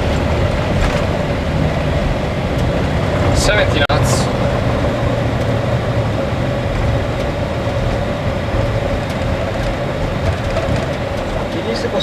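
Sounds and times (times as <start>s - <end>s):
airliner cockpit rumble and roar: 0.0s - 12.0s.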